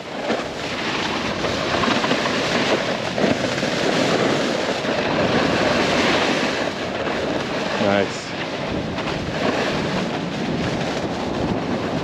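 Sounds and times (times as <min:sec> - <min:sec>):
snowboard scraping over snow: 0:00.0 - 0:12.0.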